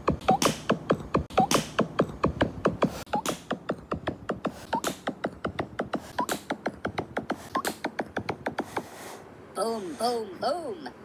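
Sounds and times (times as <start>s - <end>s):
cartoon chest-pounding thumps: 0.0s - 8.9s.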